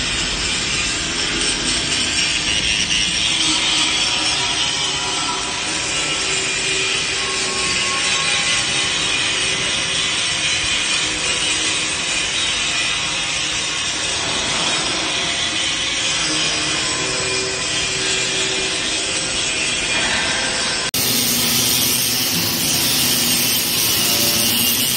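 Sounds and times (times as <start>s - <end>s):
angle grinders grinding steel: 0.0s - 24.9s.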